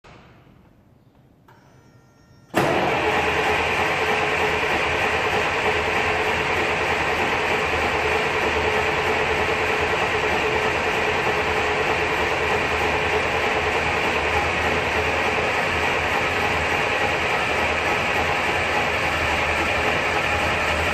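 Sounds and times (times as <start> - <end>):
bus diesel engine starting and running: 2.5 - 20.9.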